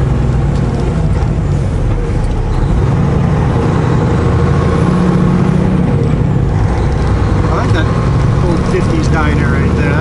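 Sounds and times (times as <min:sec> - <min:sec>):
diesel truck engine running: 0:00.0 - 0:10.0
road noise: 0:00.0 - 0:10.0.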